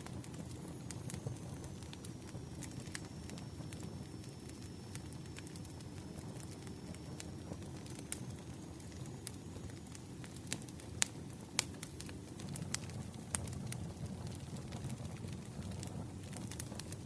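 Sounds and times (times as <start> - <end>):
low rumble of burning logs: 0.0 - 17.0
wood fire popping and snapping: 0.0 - 17.0.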